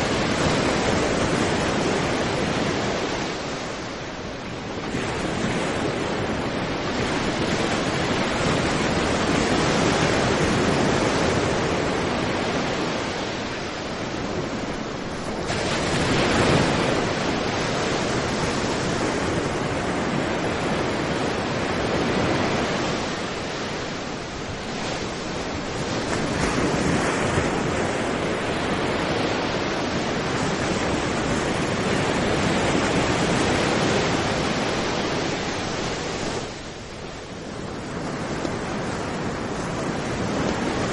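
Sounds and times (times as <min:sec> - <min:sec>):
sea waves breaking on beach: 0:00.0 - 0:40.9.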